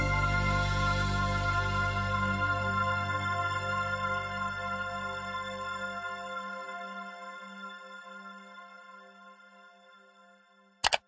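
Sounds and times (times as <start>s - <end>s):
ambient music with soft tones: 0.0s - 10.8s.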